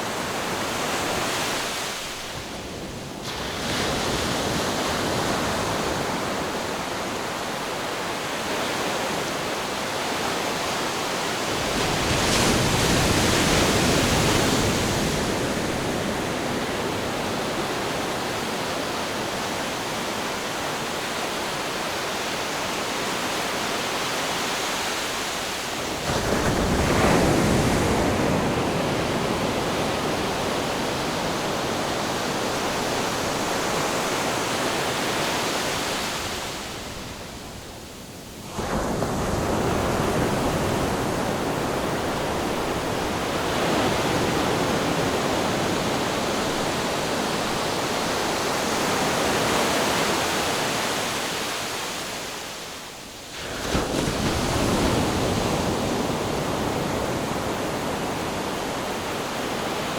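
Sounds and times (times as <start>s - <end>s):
ocean surf washing in: 0.0s - 37.4s, 38.4s - 59.9s.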